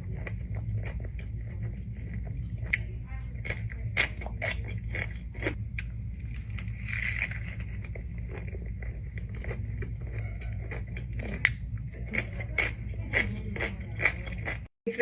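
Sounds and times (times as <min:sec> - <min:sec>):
crunchy chewing: 0:00.0 - 0:14.7.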